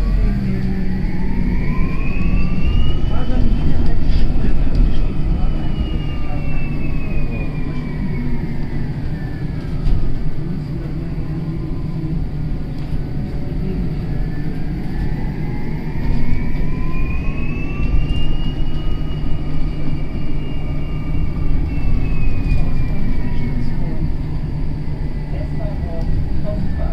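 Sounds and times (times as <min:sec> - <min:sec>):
bus drivetrain whine: 0:00.0 - 0:26.9
low rumble: 0:00.0 - 0:26.9.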